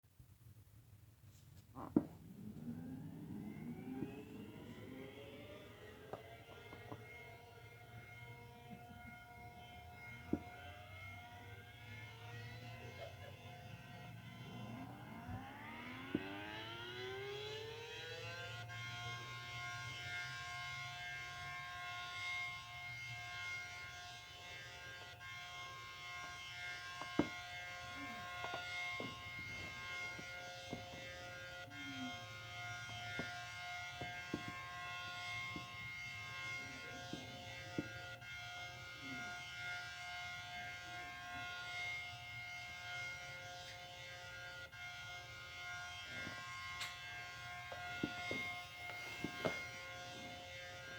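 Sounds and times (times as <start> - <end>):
warning siren steady tone: 1.8 - 50.9.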